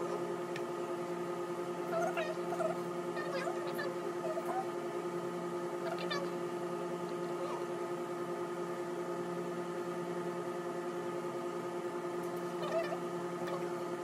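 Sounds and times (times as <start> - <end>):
steady multi-tone hum: 0.0 - 14.0.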